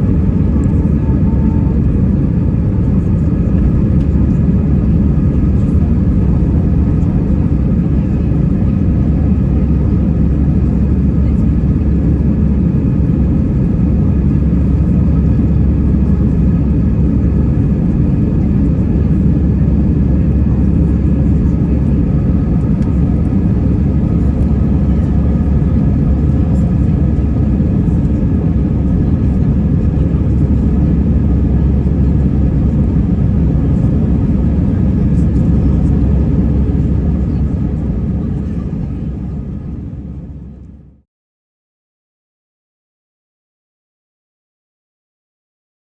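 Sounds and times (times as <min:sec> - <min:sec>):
aircraft cabin engine rumble: 0:00.0 - 0:41.0.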